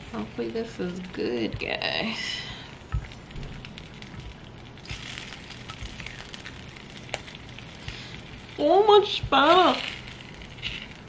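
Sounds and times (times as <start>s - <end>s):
food crackling and sizzling: 0.0s - 11.0s.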